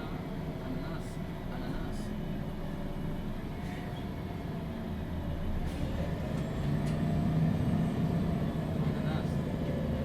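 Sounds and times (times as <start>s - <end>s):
bus engine hum: 0.0s - 10.0s
road noise: 0.0s - 10.0s.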